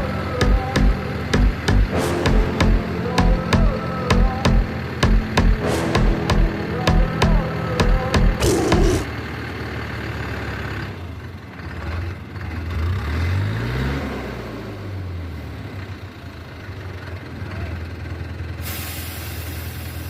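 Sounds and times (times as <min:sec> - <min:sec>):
diesel engine revving and idling: 0:00.0 - 0:20.0.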